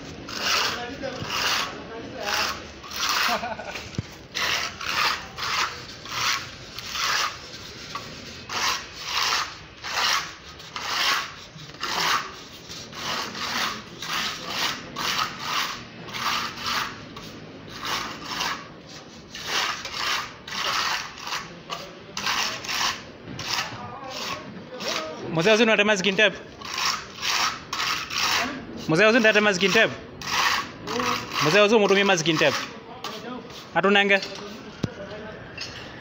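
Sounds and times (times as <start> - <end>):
hand float scraping wall: 0.0 - 25.5, 26.6 - 33.7.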